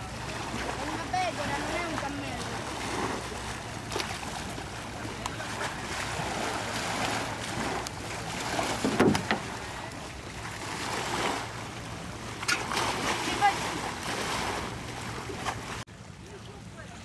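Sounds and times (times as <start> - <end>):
waves lapping on rocky shore: 0.0 - 17.0.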